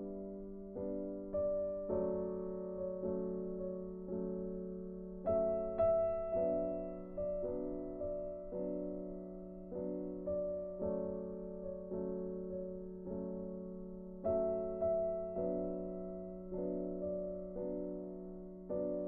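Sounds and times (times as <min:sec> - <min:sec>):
slow keyboard chords: 0:00.0 - 0:19.0.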